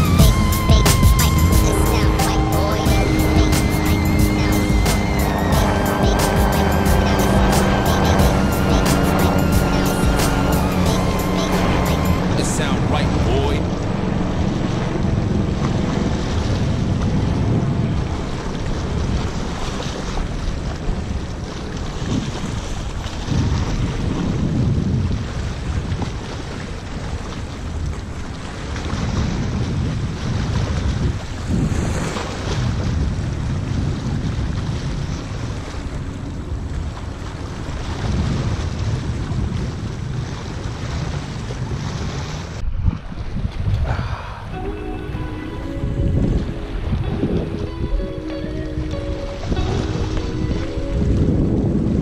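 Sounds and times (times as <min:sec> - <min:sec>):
wind blowing on microphone: 0:07.4 - 0:52.0.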